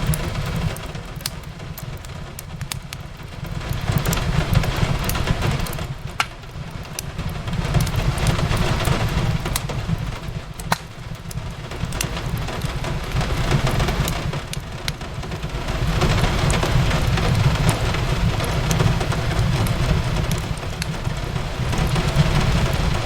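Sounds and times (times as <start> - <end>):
fireplace crackling: 0.0 - 23.0
rain on a window: 0.0 - 23.0.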